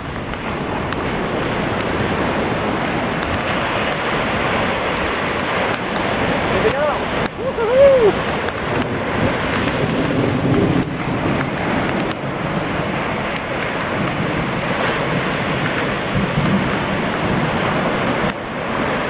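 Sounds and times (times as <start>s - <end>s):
surf breaking on beach: 0.0s - 19.0s
wind noise on microphone: 0.0s - 19.0s.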